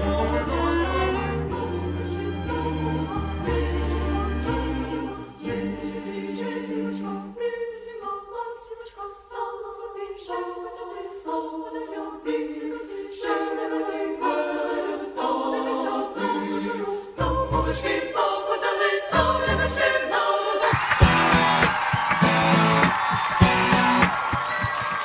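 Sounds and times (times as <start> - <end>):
choir singing sustained chords: 0.0 - 21.3.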